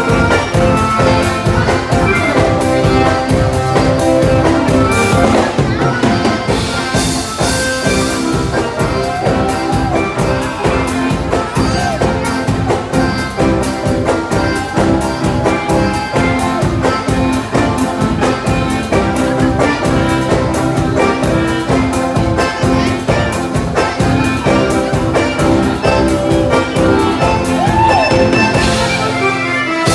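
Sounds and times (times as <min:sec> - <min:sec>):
dance band playing ballroom music: 0:00.0 - 0:29.9.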